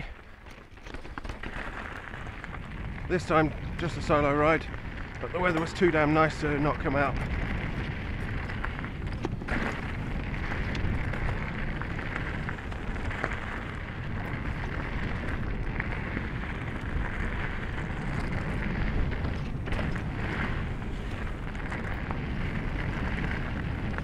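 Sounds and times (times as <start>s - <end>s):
tyres crunching on gravel: 0.0s - 24.0s
wind rumble on microphone: 0.0s - 24.0s
bike knocking over bumps: 0.3s - 24.0s.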